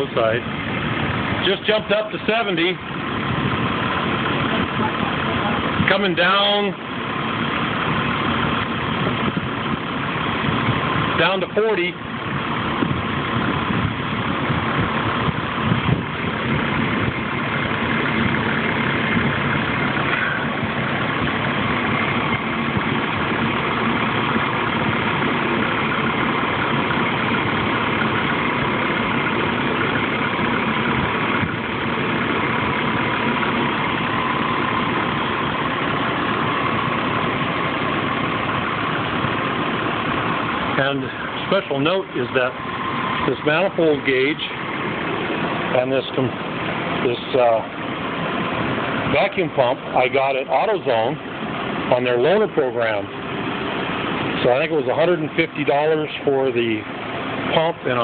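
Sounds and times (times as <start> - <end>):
car engine idling: 0.0 - 58.0
faint compressor whine: 0.0 - 58.0.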